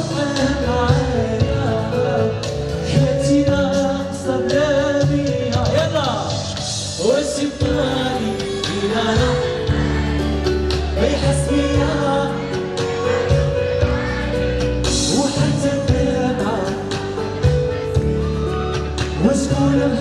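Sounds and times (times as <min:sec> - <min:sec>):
man singing into a microphone: 0:00.0 - 0:20.0
pop music with steady beat: 0:00.0 - 0:20.0.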